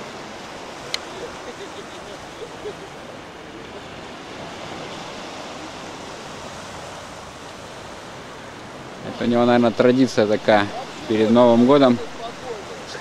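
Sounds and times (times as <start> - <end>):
small waves washing onto shore: 0.0 - 13.0.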